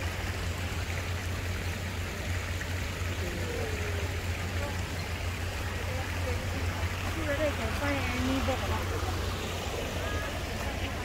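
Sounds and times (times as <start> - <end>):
water running over cascade: 0.0 - 11.0.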